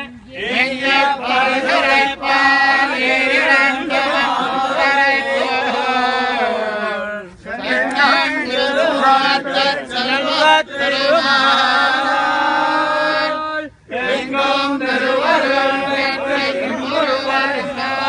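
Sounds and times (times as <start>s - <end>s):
men chanting hymns: 0.0s - 18.0s.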